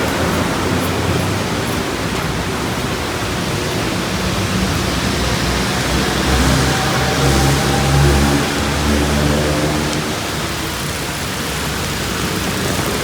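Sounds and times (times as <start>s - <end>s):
rain hissing: 0.0s - 13.0s
wet-road traffic: 0.0s - 13.0s.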